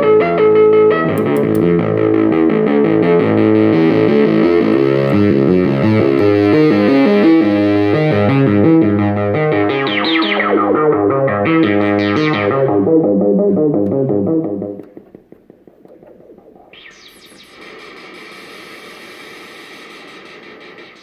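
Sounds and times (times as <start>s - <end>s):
buzzy synthesizer fast notes: 2.2s - 21.0s.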